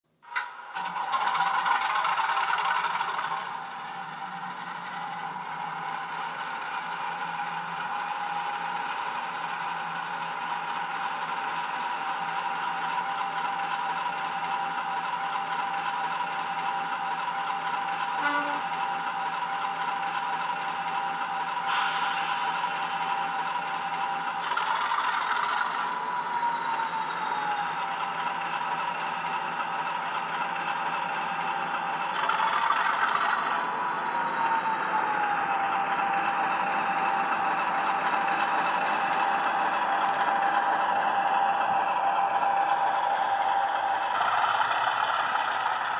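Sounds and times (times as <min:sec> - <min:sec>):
model train diesel engine sound: 0:00.1 - 0:45.9.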